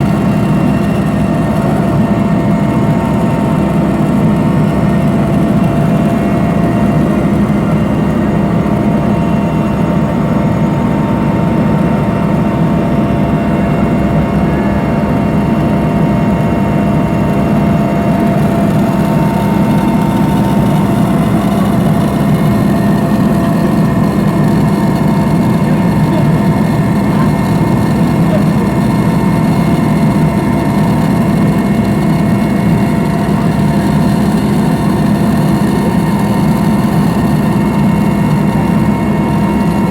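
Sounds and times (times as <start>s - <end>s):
helicopter engine and rotor drone: 0.0s - 39.9s
whining tones: 0.0s - 39.9s.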